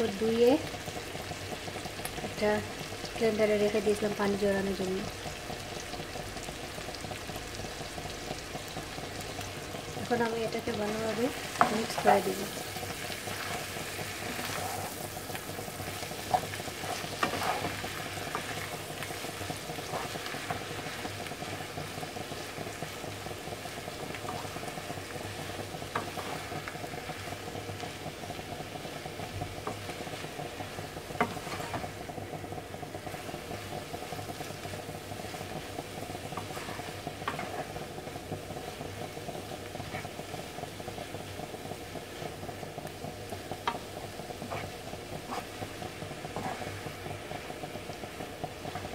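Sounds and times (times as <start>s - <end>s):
food sizzling in a frying pan: 0.0s - 48.9s
spatula stirring: 8.7s - 48.9s.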